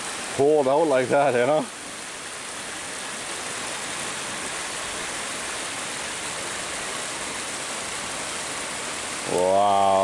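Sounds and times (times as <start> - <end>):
waterfall rushing over rock: 0.0 - 10.0.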